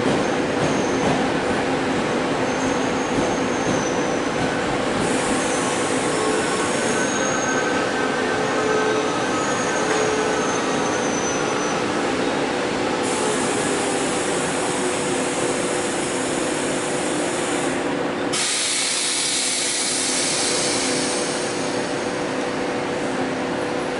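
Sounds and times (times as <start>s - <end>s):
train rolling rumble and hiss: 0.0s - 23.9s.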